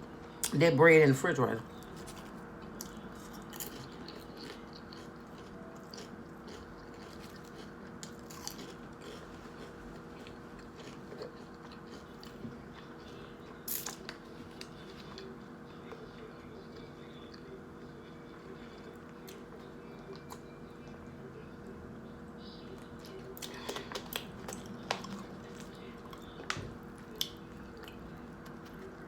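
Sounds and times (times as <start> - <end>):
chewing sandwich: 1.7 - 21.6, 22.4 - 29.0.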